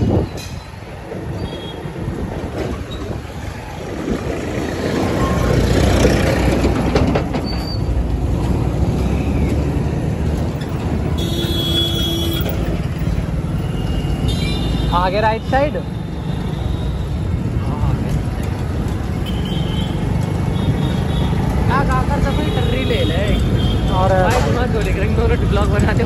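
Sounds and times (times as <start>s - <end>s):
city traffic: 0.0s - 26.0s
road and wind noise: 0.0s - 26.0s.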